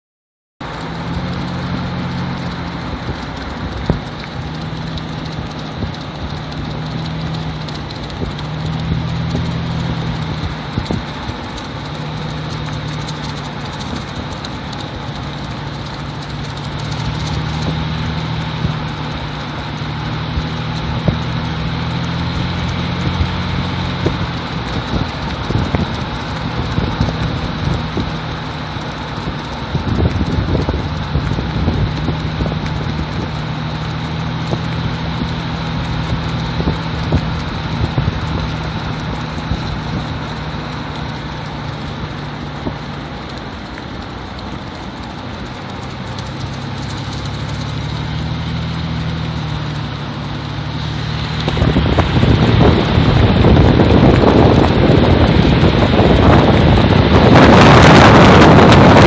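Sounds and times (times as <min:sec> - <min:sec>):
vehicle engine running: 0:00.6 - 0:59.0
tyre and wind noise: 0:00.7 - 0:40.3, 0:50.6 - 0:59.0.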